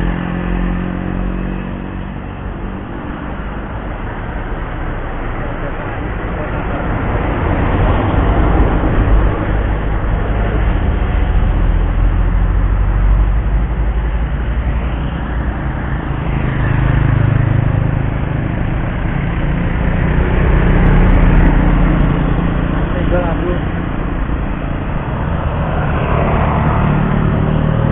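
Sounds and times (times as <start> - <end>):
cars driving by: 0.0 - 27.9
motorcycle passing: 0.0 - 27.9.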